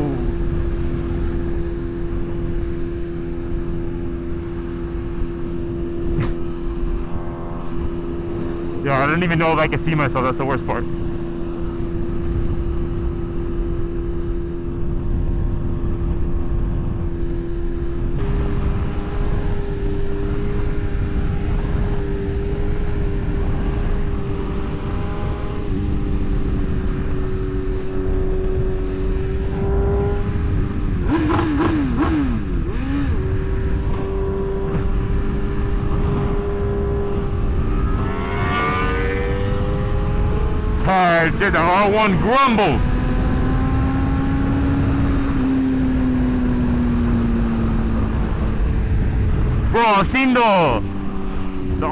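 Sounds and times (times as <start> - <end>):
motorcycle engine cruising: 0.0 - 9.8, 10.8 - 41.4, 42.1 - 49.7
wind and road noise: 0.0 - 51.9.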